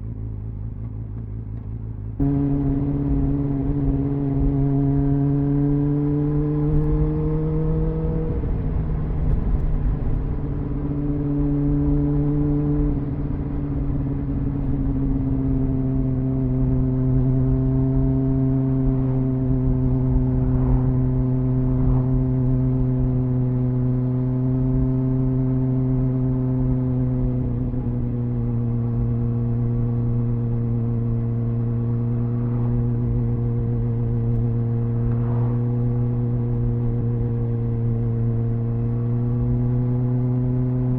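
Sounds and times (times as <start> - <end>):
motorcycle engine running: 0.0 - 40.9
wind and road rumble: 0.0 - 40.9.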